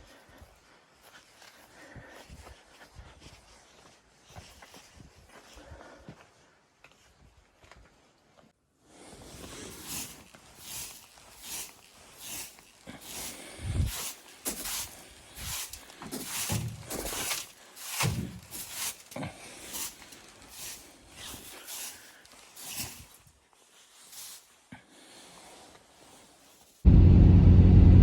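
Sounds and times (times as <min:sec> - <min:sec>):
footsteps crunching through snow: 0:00.1 - 0:08.5, 0:09.1 - 0:24.7.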